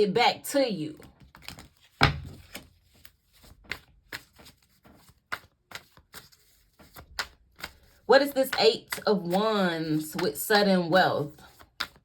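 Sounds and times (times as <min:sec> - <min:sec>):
cards being shuffled: 0:01.0 - 0:10.4, 0:11.4 - 0:12.0.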